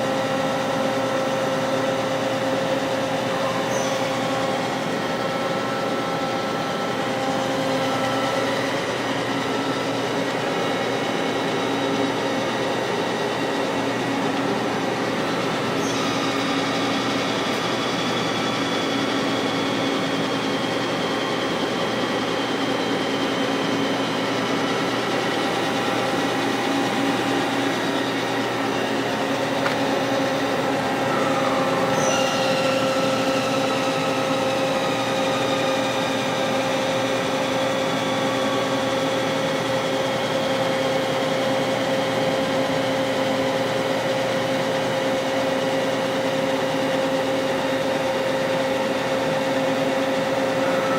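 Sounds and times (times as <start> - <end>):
lathe motors humming and whining: 0.0 - 50.9.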